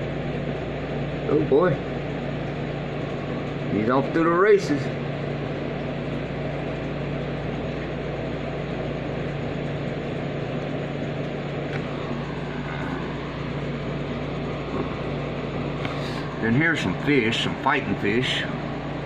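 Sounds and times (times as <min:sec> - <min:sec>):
mechanical drone hum: 0:00.0 - 0:19.0.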